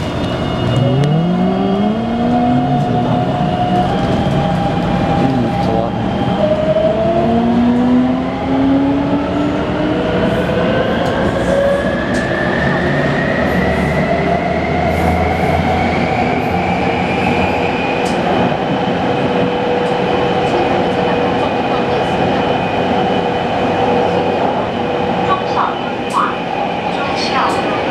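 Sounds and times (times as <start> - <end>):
train running and rail noise: 0.0 - 27.9.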